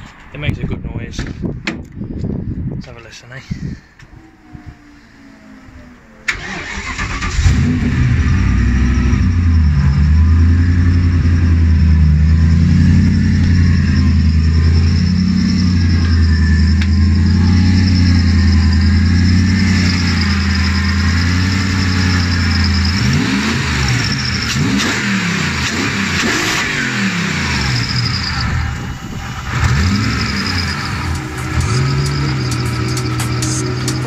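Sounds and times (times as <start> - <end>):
car engine revving and idling: 4.4 - 34.0.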